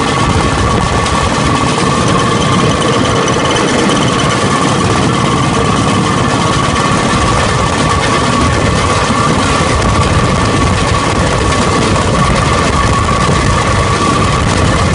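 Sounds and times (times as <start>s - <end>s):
rail car engine chattering: 0.0s - 14.9s
steady high whine: 0.0s - 14.9s.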